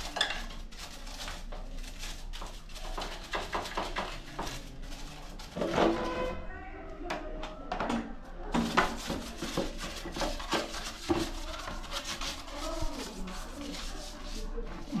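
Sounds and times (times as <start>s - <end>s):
rubbing and scraping strokes: 0.0s - 6.4s, 8.5s - 15.0s.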